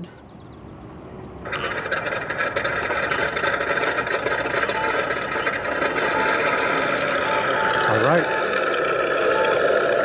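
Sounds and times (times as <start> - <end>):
simulated radial engine idling: 1.4 - 10.0.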